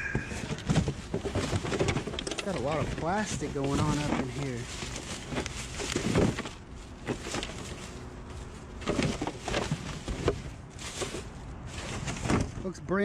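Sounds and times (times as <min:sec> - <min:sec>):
plastic parts clattering and rustling: 0:00.1 - 0:12.8.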